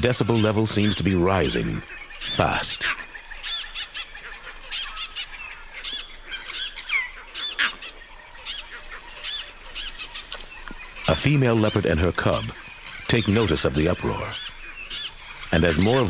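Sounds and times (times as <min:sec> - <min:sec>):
monkeys giving alarm calls: 0:00.0 - 0:16.0.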